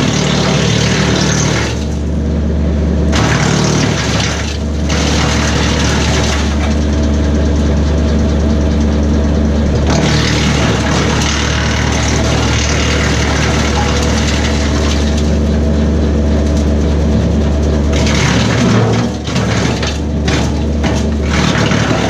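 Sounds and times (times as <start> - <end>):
tractor diesel engine running: 0.0 - 22.0
wood chipper chipping branches: 0.0 - 22.0.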